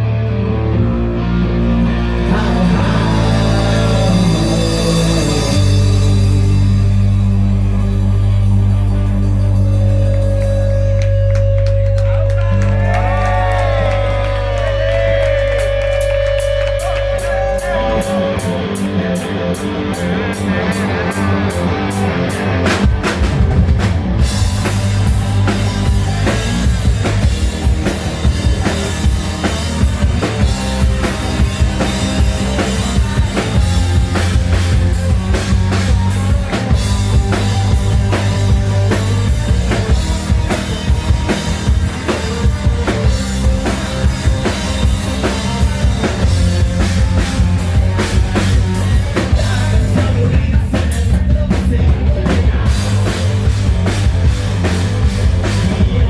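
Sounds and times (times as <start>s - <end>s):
drums: 0.0s - 56.0s
hard rock band playing live: 0.0s - 56.0s.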